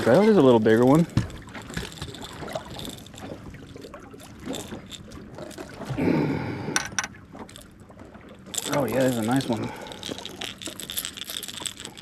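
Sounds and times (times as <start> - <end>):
water lapping against boat: 0.0 - 12.0.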